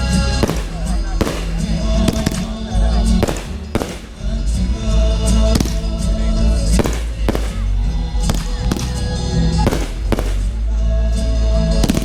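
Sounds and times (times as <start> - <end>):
fireworks bangs: 0.0 - 10.9, 11.7 - 12.0
music: 0.0 - 12.0.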